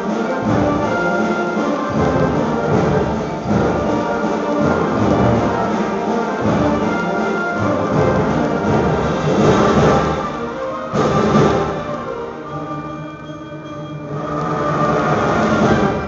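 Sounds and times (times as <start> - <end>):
concert band playing: 0.0 - 16.0.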